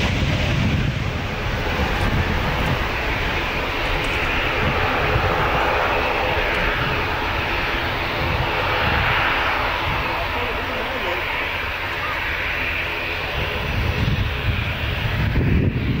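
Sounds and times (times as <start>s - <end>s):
jet engines at high thrust: 0.0s - 16.0s.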